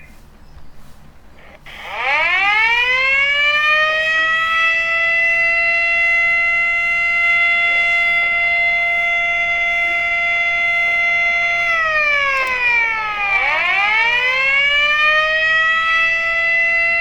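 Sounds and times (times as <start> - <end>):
civil defense siren: 1.4 - 17.0.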